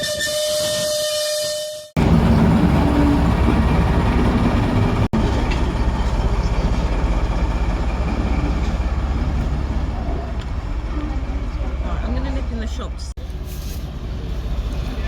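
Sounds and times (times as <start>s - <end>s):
train rumbling: 1.9s - 15.0s.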